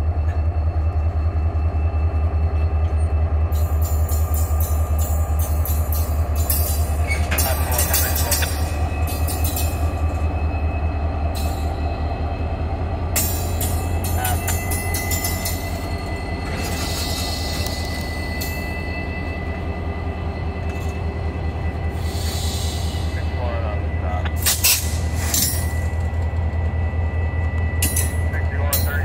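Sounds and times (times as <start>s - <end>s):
locomotive engine droning: 0.0s - 29.0s.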